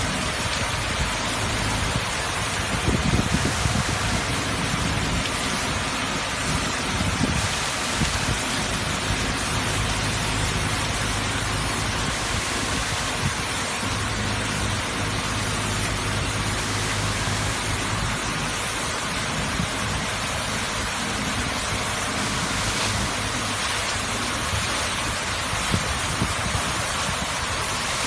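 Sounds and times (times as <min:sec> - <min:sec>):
high-pressure water jets hissing: 0:00.0 - 0:28.0.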